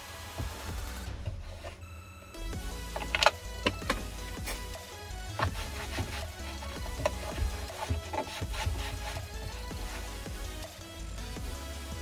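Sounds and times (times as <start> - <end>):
background music with bass line: 0.0 - 1.8, 2.4 - 12.0.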